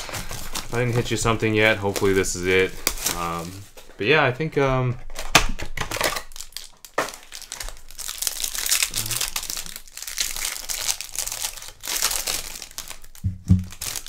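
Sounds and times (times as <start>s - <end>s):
plastic wrapper crinkling: 0.0s - 4.1s, 5.0s - 14.0s.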